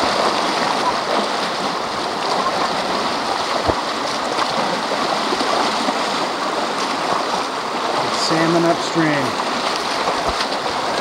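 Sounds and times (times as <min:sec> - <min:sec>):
river water rushing: 0:00.0 - 0:11.0
splashing footsteps in water: 0:00.0 - 0:11.0.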